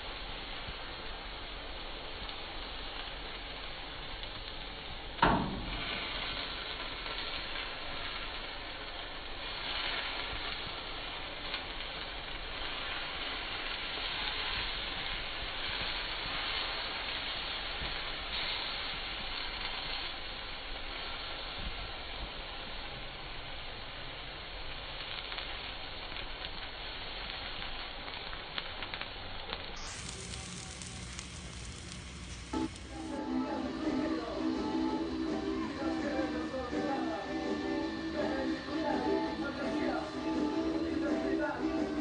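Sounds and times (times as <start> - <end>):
chicken sizzling on a spit: 0.0 - 42.0.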